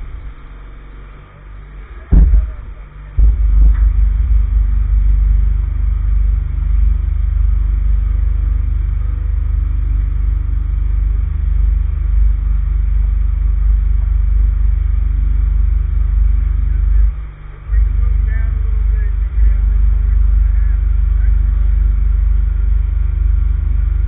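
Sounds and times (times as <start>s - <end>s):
vibratory pile driver rumbling: 0.0s - 24.0s.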